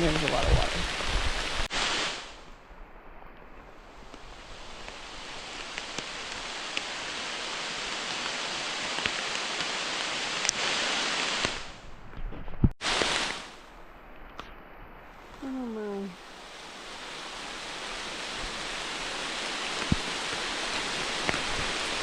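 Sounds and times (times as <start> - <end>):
rain: 0.0 - 12.2, 12.8 - 22.0.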